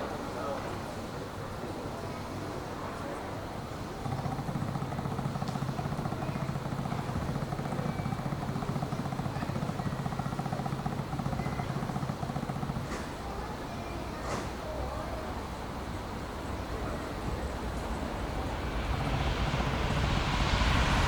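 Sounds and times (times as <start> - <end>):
train passing with low rumble: 1.6 - 21.0.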